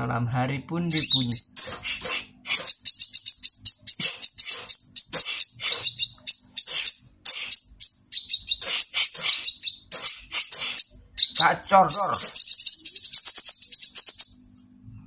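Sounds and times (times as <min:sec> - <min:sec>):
sunbird singing high chirps and trills: 0:00.8 - 0:14.5.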